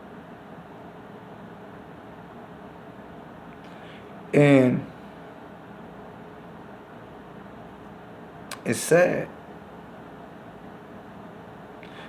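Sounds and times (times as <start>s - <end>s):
low room tone hiss: 0.0s - 12.0s.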